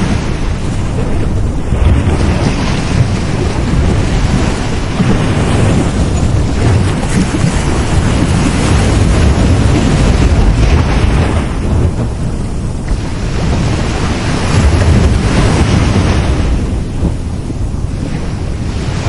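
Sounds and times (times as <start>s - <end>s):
sea waves breaking on beach: 0.0s - 19.0s
wind buffeting microphone: 0.0s - 19.0s.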